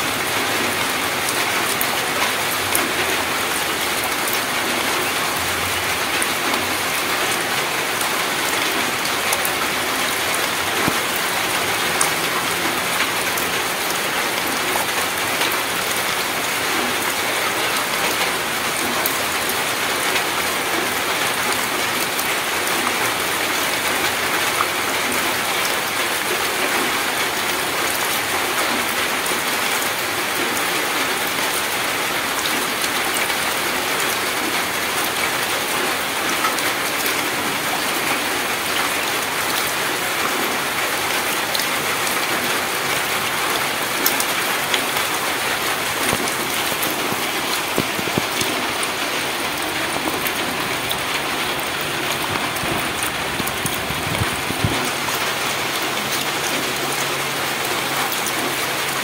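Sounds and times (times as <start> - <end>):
rain pattering into a puddle: 0.0 - 59.0.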